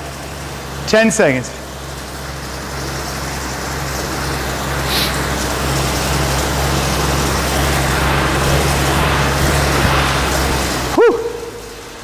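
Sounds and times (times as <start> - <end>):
air bike fan whirring: 0.0 - 12.0.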